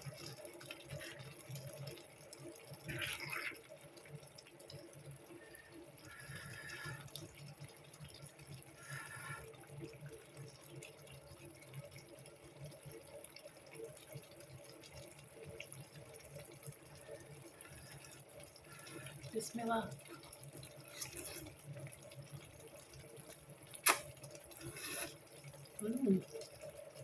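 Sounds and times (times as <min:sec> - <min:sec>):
faint running water: 0:00.0 - 0:27.0.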